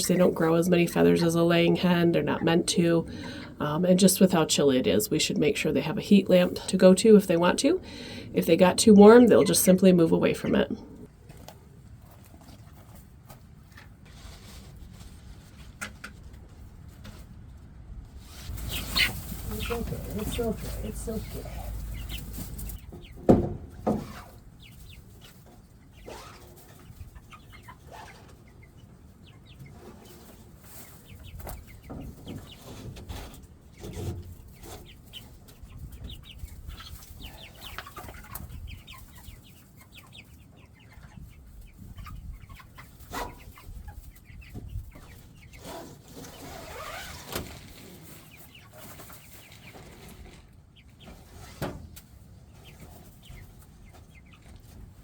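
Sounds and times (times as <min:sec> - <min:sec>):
chickens peeping and clucking: 0:00.0 - 0:55.0.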